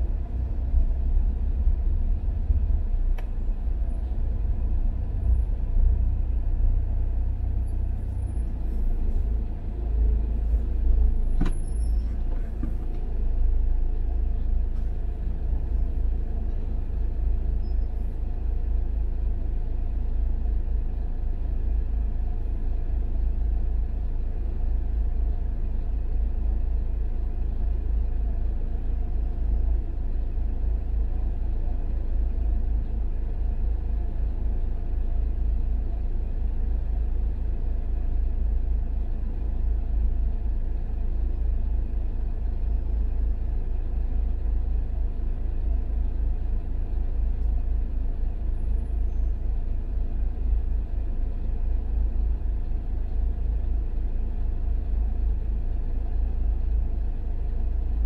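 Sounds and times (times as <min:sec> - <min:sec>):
car interior rumble: 0:00.0 - 0:58.0.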